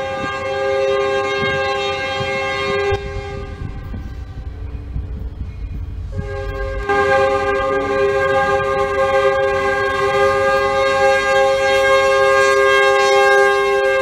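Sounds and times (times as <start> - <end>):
locomotive air horn blast: 0.0 - 4.7, 6.1 - 14.0
low train rumble: 0.0 - 14.0.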